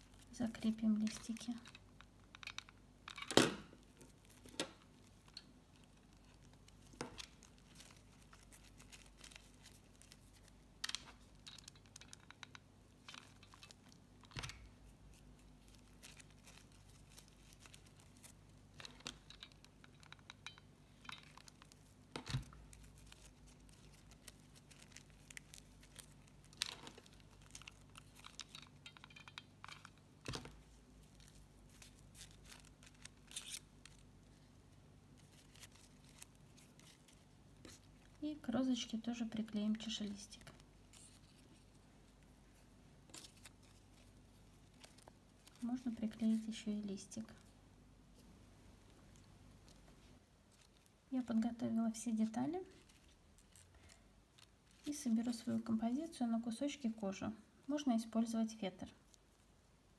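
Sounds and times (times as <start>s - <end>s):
ribbon rustling: 0.0s - 56.1s.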